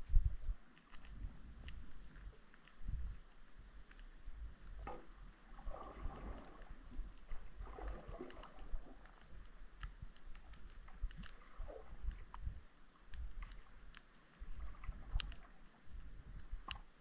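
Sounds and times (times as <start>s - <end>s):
low underwater rumble: 0.0s - 17.0s
faint clicks: 0.6s - 17.0s.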